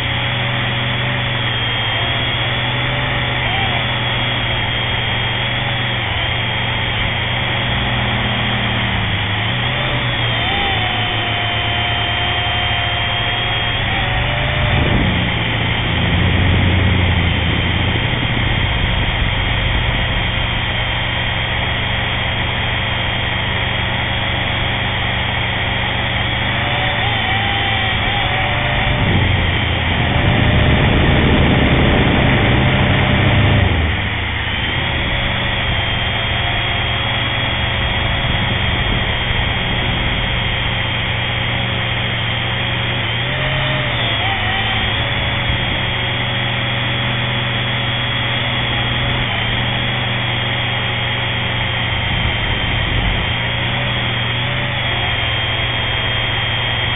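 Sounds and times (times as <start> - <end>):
drone propellers whining: 0.0 - 56.9
low rumble: 0.0 - 56.9.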